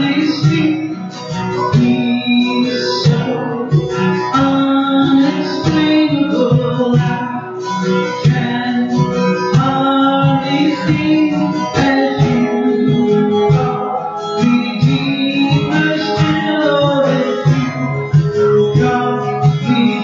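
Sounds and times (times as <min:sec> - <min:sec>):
acoustic guitar strumming: 0:00.0 - 0:20.0
person singing: 0:00.0 - 0:20.0.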